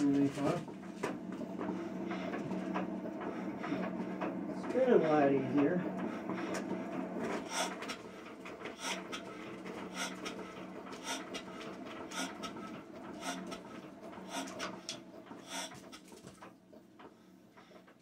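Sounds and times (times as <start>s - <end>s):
diesel engine puffing while cranked: 1.4s - 18.0s.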